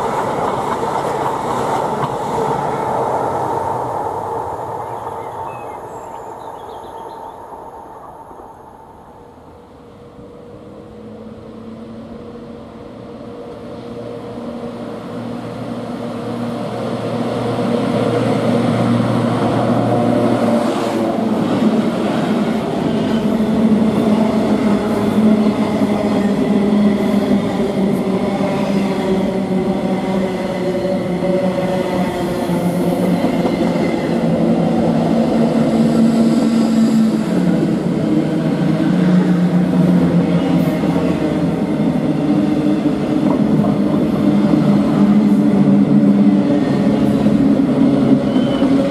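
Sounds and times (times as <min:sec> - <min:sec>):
electric locomotive hum: 0:00.0 - 0:48.9.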